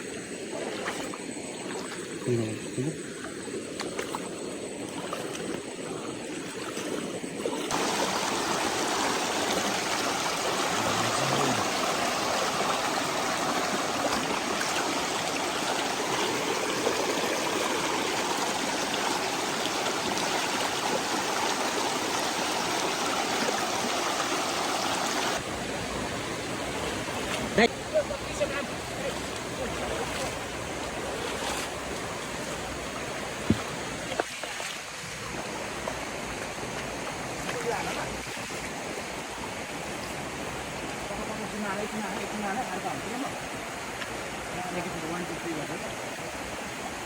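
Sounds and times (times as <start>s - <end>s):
stream flowing over rocks: 0.0s - 47.0s.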